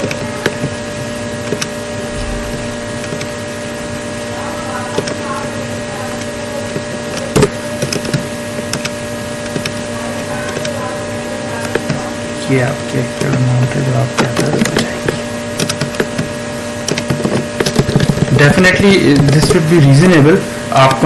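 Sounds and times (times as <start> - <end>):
mechanical background hum: 0.0 - 21.0.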